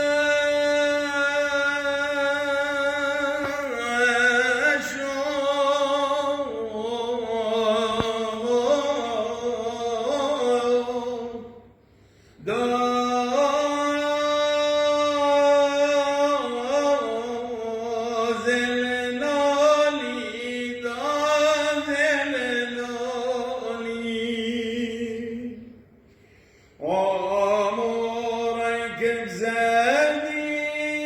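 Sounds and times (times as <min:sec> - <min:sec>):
man chanting a hymn: 0:00.0 - 0:11.7, 0:12.4 - 0:25.8, 0:26.8 - 0:31.0.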